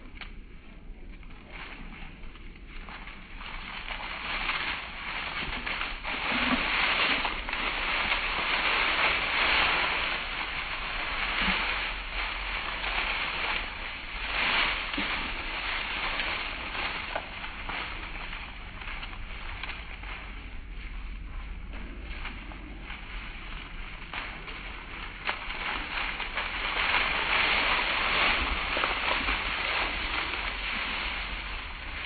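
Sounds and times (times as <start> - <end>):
dry leaves rustling and crunching: 0.0 - 32.0.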